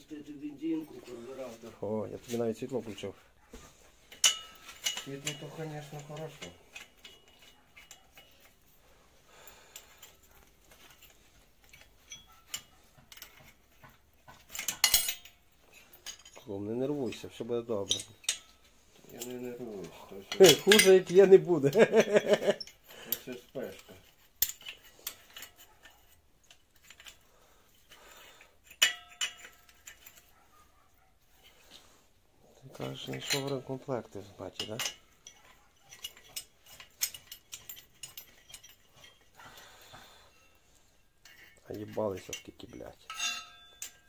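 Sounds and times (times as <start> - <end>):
metallic clatter: 0.1 - 44.0
tools clicking and tapping: 2.6 - 8.8, 9.4 - 31.9, 32.7 - 44.0.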